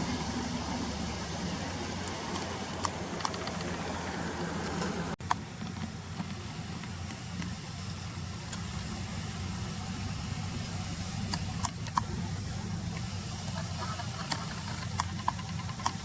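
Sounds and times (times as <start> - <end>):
low outdoor background rumble: 0.0 - 16.0.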